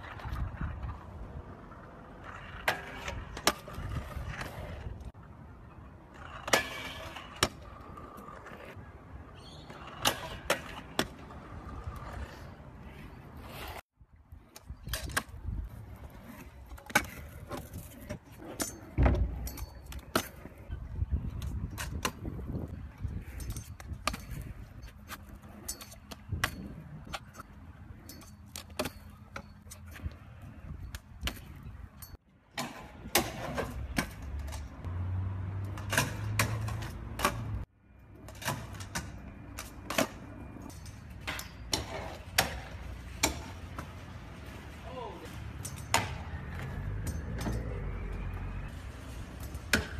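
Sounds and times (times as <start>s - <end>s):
scooter wheels rolling on concrete: 0.0s - 49.9s.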